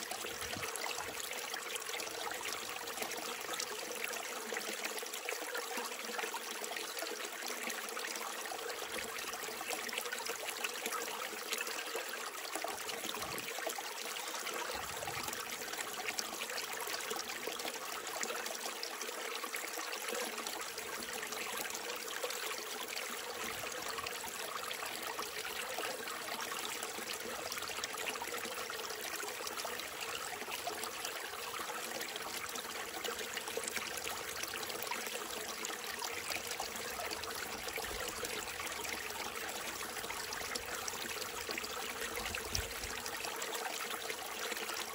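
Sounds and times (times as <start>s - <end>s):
stream babbling over rocks: 0.0s - 44.9s.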